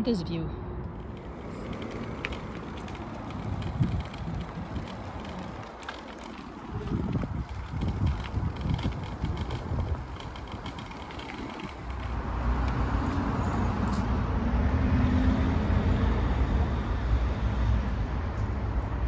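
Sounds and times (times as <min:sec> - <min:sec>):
traffic rumbling past: 0:00.0 - 0:19.0.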